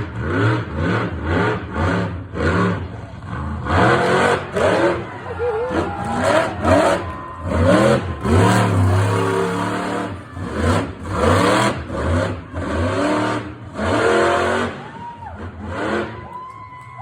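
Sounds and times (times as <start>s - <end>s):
truck engine revving hard: 0.0s - 16.4s.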